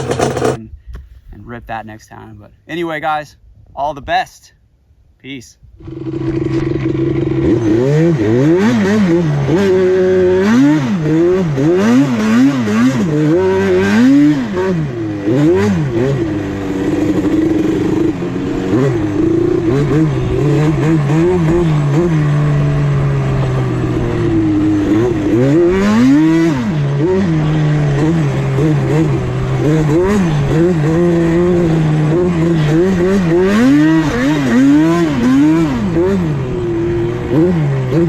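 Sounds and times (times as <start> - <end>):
two-stroke engine revving: 0.0 - 0.6, 5.8 - 38.0.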